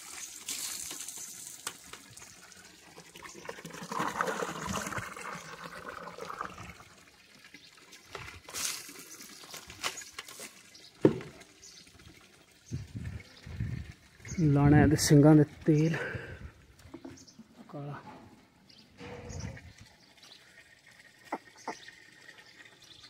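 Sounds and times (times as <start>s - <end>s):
water pouring and splashing: 0.0s - 23.0s.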